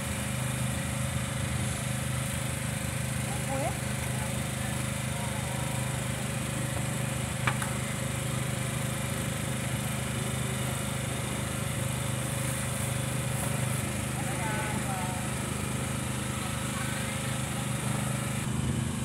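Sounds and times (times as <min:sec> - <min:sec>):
small engine droning: 0:00.0 - 0:19.0.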